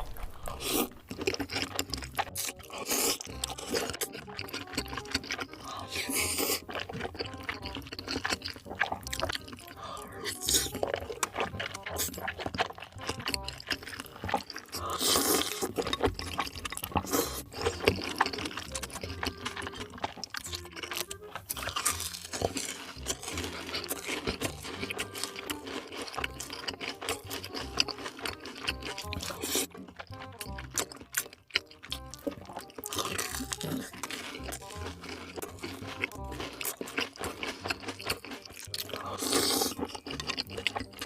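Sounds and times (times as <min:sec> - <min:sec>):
background music: 0:00.0 - 0:41.0
wet chewing and crunching: 0:00.0 - 0:41.0.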